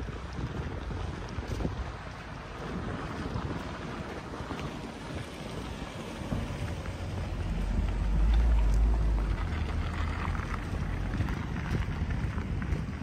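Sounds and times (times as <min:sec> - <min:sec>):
deep low rumble: 0:00.0 - 0:13.0
city street ambience hiss: 0:00.3 - 0:13.0.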